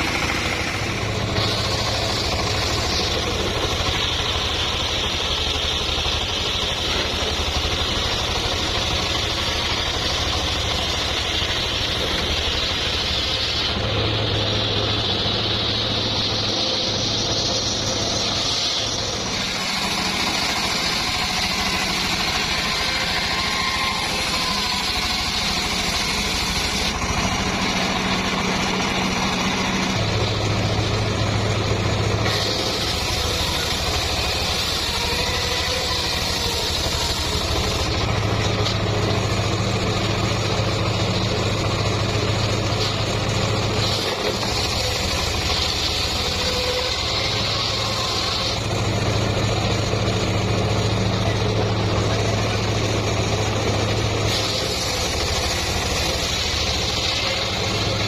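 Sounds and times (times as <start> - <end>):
engine hum: 0.0 - 58.0
saw blade cutting wood: 0.0 - 58.0.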